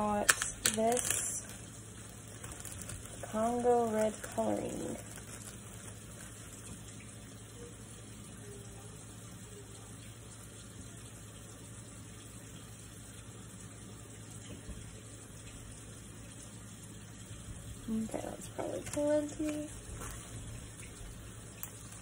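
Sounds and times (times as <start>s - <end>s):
tap water running: 0.0s - 22.0s.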